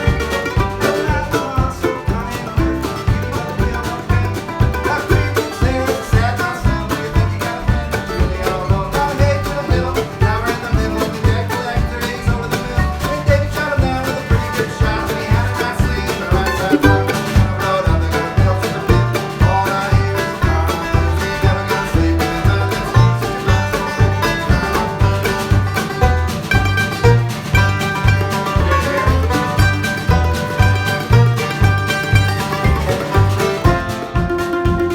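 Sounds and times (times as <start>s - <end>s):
picked string notes: 0.0s - 34.9s
steady bass beat: 0.0s - 34.9s.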